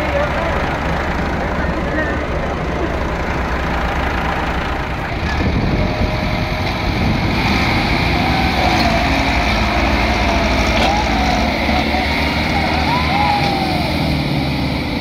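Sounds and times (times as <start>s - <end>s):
tractor engines under heavy load: 0.0s - 15.0s.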